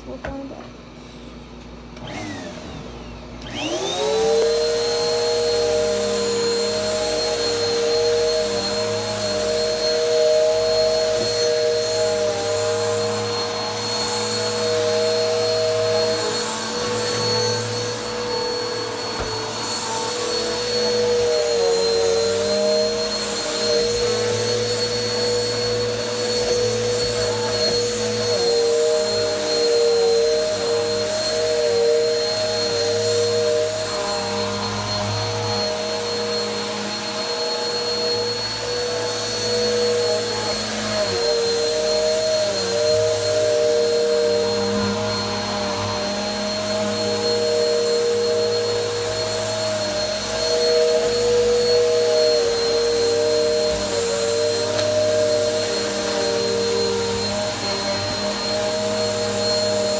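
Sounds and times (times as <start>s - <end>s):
upright vacuum whining: 0.0s - 59.9s.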